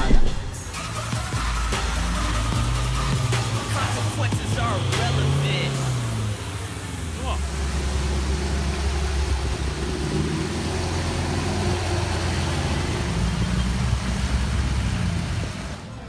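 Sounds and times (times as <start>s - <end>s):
engines running hard: 0.6s - 16.0s
tyres churning through mud: 0.6s - 16.0s.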